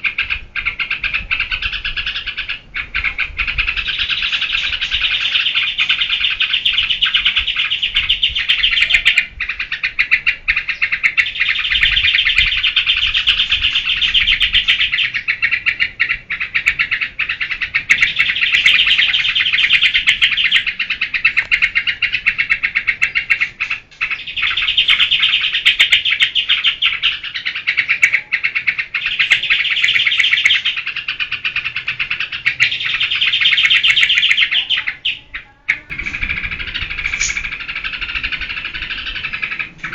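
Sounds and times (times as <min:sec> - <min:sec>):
bulbul fast chattering song: 0:00.0 - 0:39.9.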